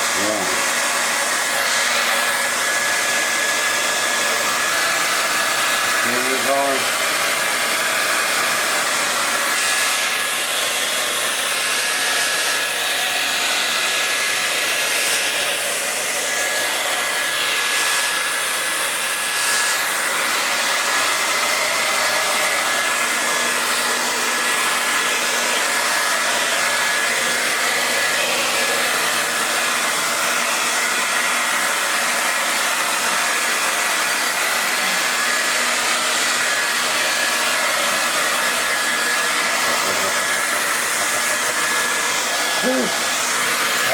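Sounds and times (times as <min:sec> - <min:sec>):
hair dryer blowing: 0:00.0 - 0:43.9.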